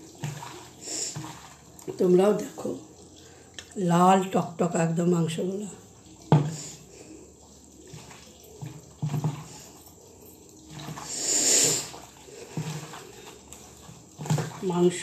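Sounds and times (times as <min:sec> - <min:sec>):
meat squelching kneaded by hand: 0:00.0 - 0:03.8, 0:05.4 - 0:15.0.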